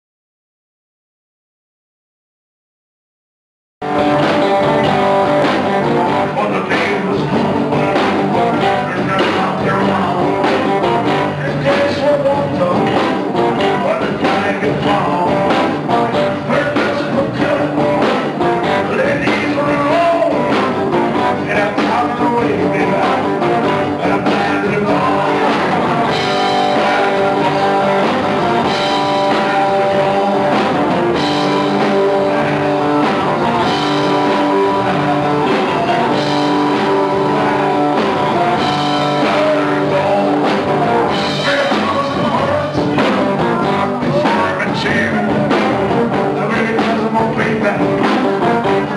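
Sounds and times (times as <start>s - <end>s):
bass guitar: 3.8s - 48.9s
drum kit: 3.8s - 48.9s
electric guitars: 3.8s - 48.9s
man singing: 4.0s - 48.9s.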